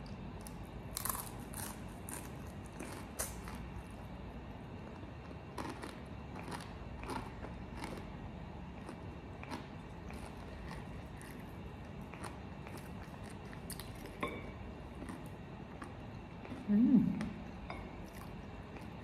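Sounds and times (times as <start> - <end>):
chewing crispy fried chicken: 0.4 - 4.0, 4.8 - 14.2, 14.8 - 17.3.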